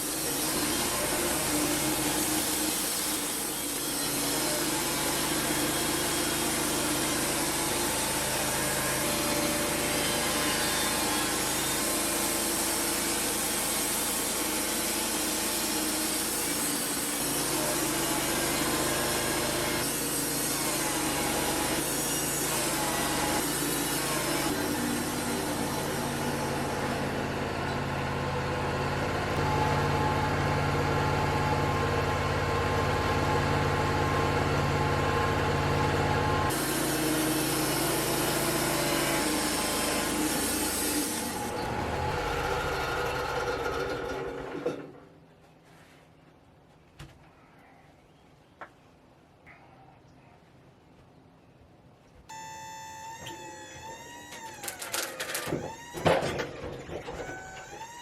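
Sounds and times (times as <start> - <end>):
sawmill engine droning: 0.0 - 44.9, 52.3 - 58.0.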